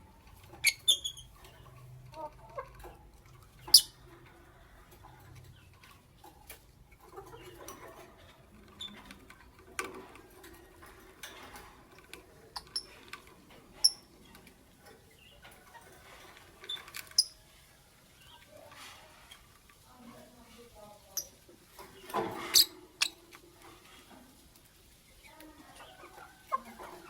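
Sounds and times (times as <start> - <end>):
birds clicking and tapping: 0.0 - 27.0.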